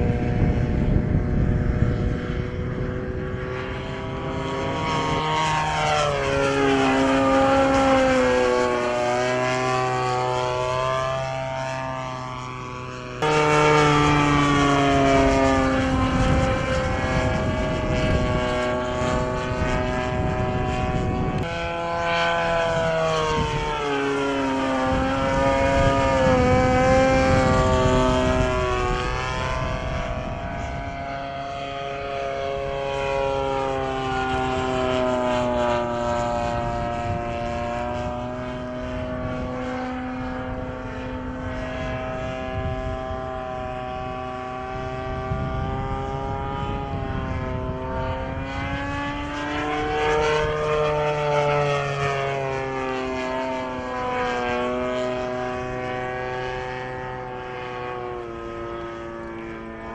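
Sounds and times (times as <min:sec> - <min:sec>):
model airplane engine droning: 0:00.0 - 0:59.9.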